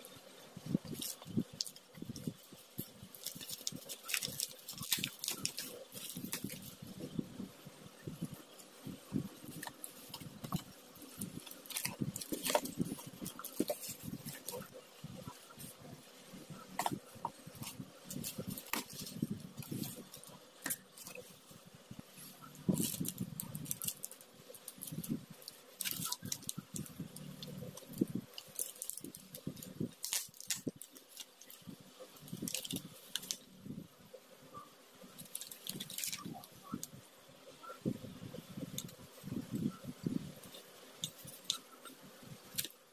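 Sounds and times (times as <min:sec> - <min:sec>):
plastic wrapping crinkling: 0:00.0 - 0:33.5, 0:35.1 - 0:37.0, 0:38.6 - 0:42.8.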